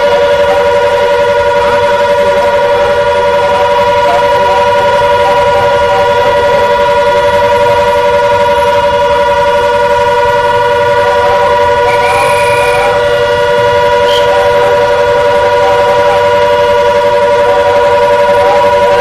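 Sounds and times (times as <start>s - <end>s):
air-raid siren steady tone: 0.0s - 19.0s.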